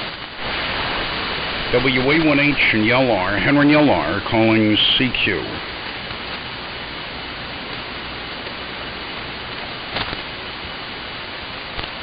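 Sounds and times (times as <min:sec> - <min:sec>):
radio crackle: 0:00.0 - 0:12.0
shortwave radio hiss: 0:00.0 - 0:12.0.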